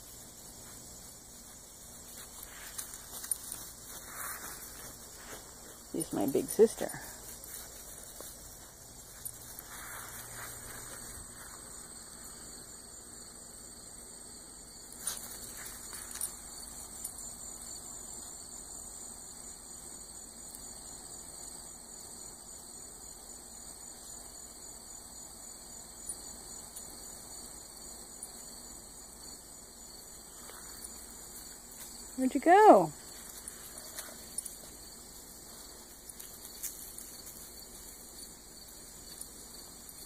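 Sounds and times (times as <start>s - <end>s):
insect trill: 0.0s - 40.0s.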